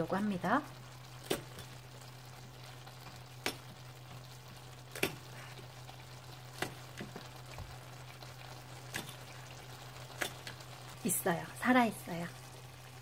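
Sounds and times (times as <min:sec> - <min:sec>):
braise simmering: 0:00.0 - 0:13.0.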